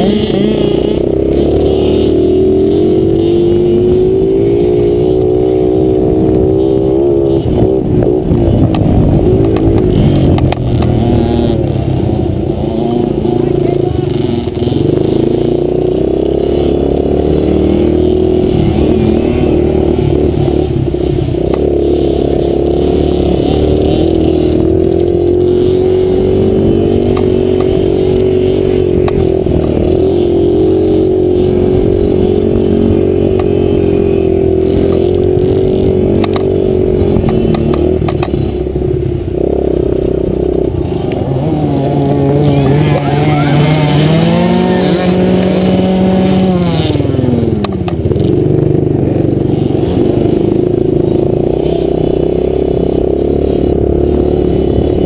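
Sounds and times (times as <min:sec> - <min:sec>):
dirt bike engine running hard: 0:00.0 - 0:55.0.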